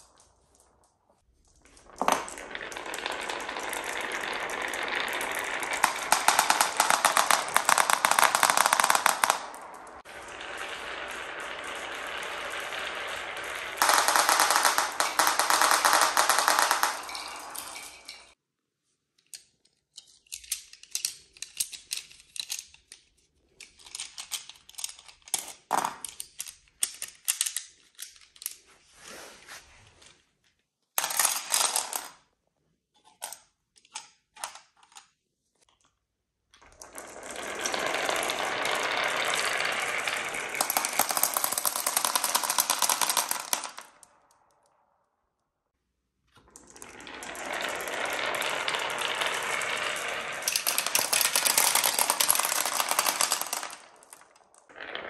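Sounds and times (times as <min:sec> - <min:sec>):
marbles clattering down wooden tracks: 0:00.0 - 0:18.4, 0:20.3 - 0:28.6, 0:31.0 - 0:32.3, 0:36.6 - 0:44.8, 0:46.3 - 0:55.0.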